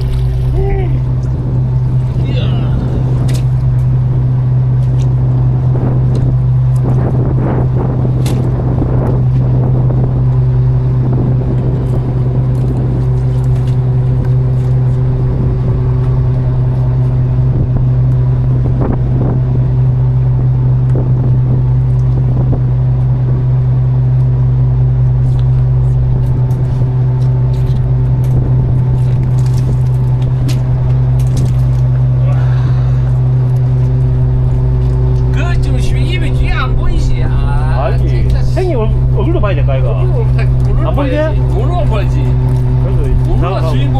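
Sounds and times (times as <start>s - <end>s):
boat engine humming: 0.0s - 43.9s.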